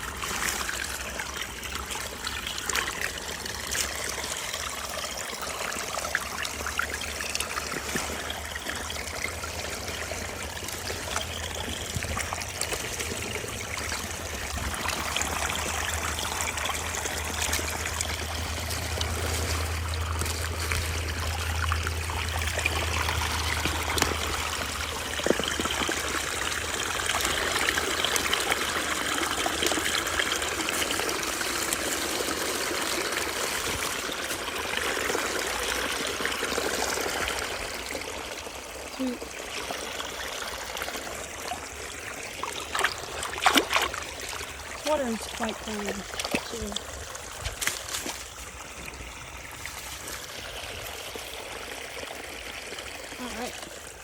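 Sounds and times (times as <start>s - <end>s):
creek water trickling over stones: 0.0s - 54.0s.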